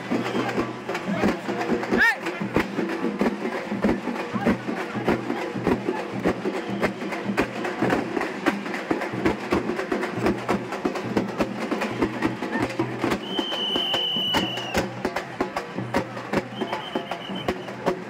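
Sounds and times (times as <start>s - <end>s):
fast loud drumming: 0.0s - 18.0s.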